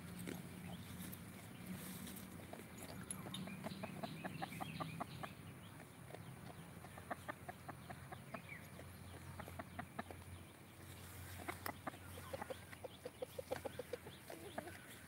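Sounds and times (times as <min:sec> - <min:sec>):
hen clucking: 0:01.8 - 0:15.0.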